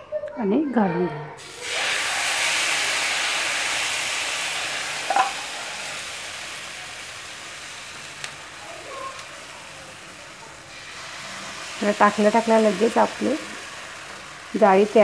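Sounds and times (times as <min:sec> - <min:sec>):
batter sizzling on a hot pan: 0:01.4 - 0:15.0.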